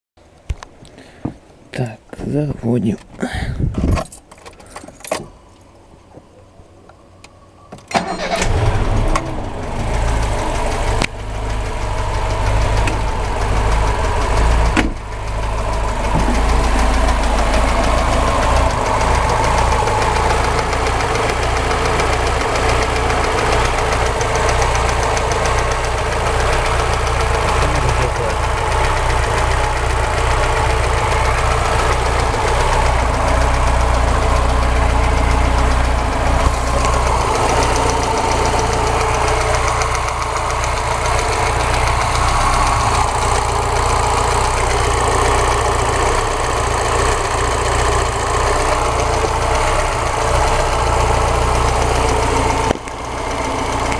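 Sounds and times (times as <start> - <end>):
car engine idling: 4.4 - 53.9
engine knock: 8.0 - 53.9.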